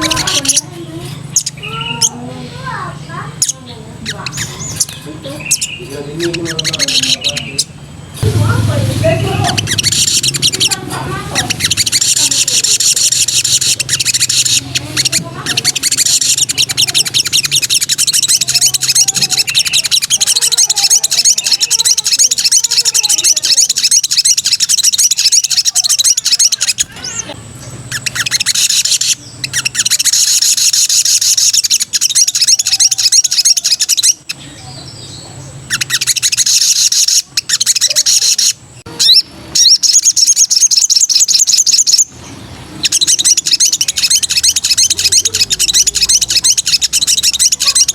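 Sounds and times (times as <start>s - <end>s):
bird singing fast trills: 0.0s - 47.9s.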